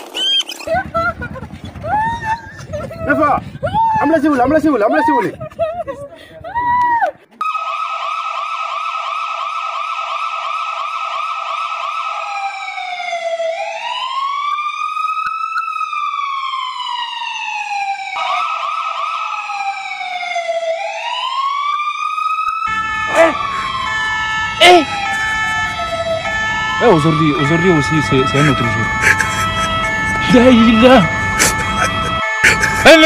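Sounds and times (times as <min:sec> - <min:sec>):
ambulance siren: 0:01.1 - 0:05.4, 0:07.4 - 0:33.0.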